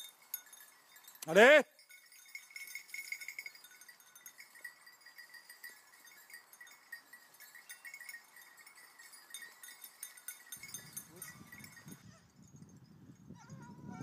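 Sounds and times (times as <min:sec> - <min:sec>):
faint jingling of small bells: 0:00.0 - 0:14.0.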